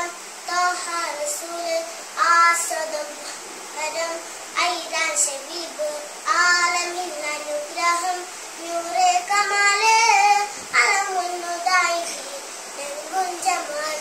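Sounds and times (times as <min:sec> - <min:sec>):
girl singing unaccompanied: 0:00.0 - 0:14.0.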